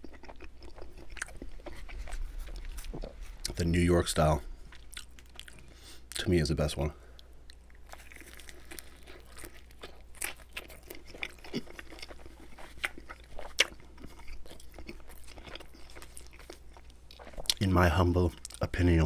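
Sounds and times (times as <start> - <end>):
chewing crunchy pizza crust: 0.0 - 6.4, 7.1 - 19.0.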